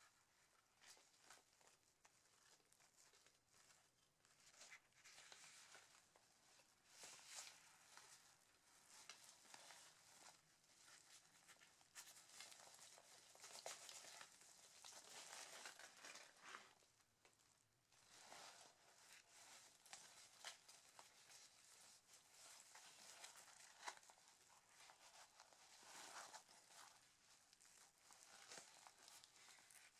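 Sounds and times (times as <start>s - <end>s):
fabric rustling and scuffing: 0.3s - 16.8s, 17.9s - 29.9s.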